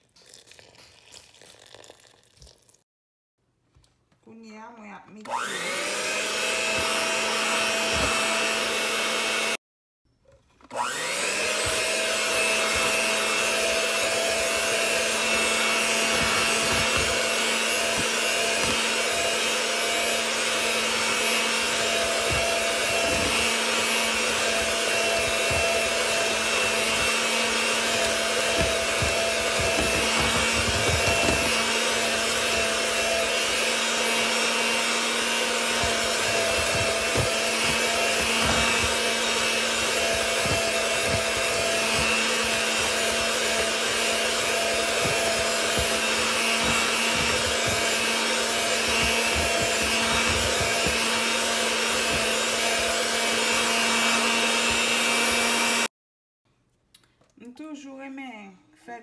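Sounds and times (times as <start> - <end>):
electric mixer whining: 5.2 - 9.6, 10.6 - 55.9.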